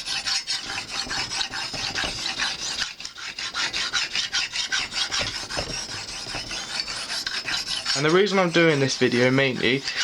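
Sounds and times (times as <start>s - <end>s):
hone rasping on knife edge: 0.0s - 10.0s.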